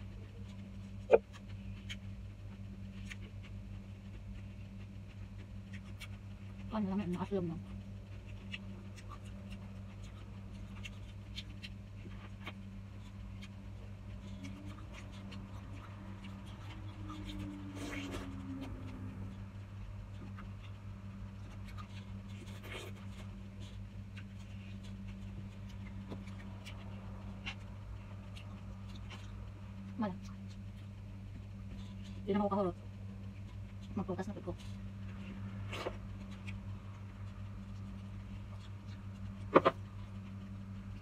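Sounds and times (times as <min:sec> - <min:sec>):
low electrical hum: 0:00.0 - 0:41.0
wet chewing: 0:00.0 - 0:41.0.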